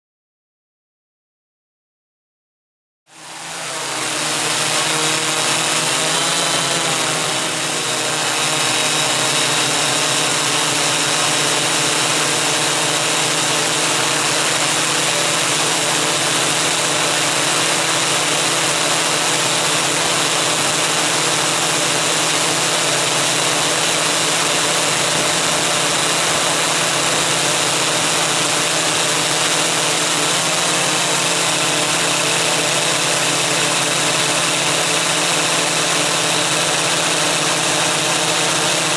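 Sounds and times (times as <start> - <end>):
multicopter motors hum-whine: 3.1 - 38.9.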